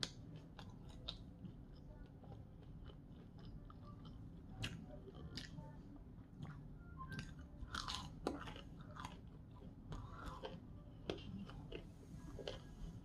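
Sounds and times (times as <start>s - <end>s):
person chewing crispy food: 0.0s - 13.0s.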